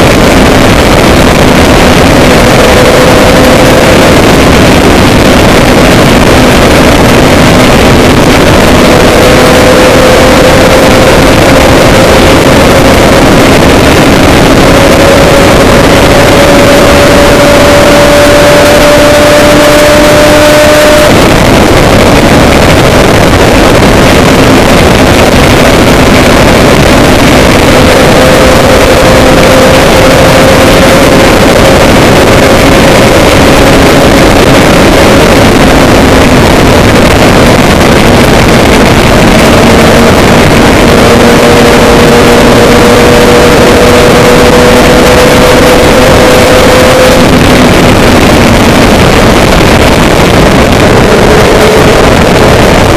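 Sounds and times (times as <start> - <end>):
loud distorted noise: 0.0 - 52.9
vehicle engine revving: 0.0 - 52.9.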